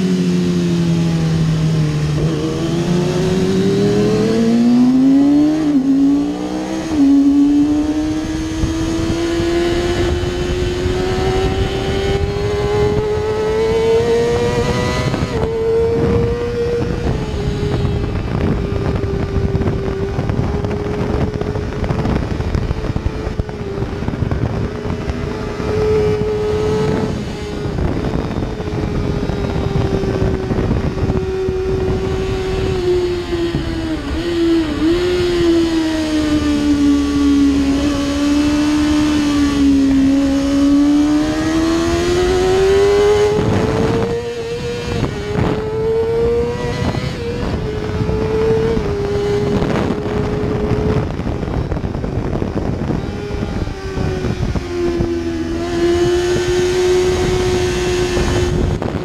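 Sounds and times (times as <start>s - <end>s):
motorcycle engine revving high: 0.0s - 59.0s
wind rushing over microphone: 0.0s - 59.0s.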